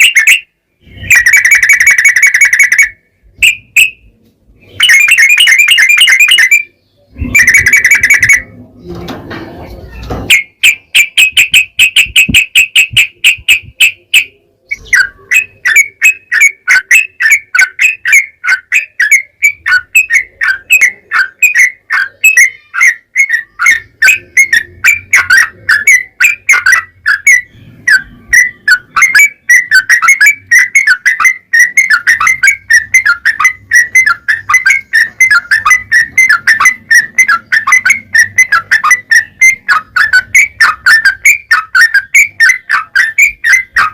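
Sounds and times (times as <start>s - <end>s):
bird trilling: 0.0s - 43.9s.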